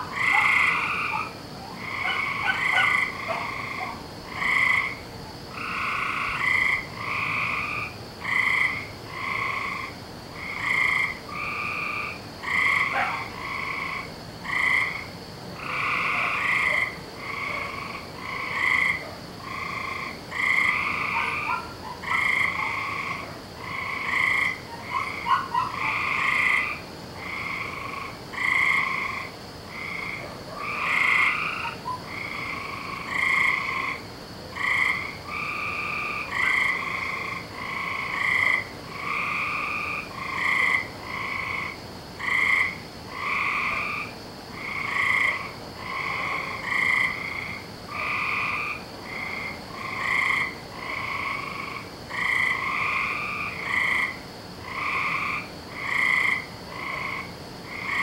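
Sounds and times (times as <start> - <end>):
frogs calling: 0.0 - 58.0.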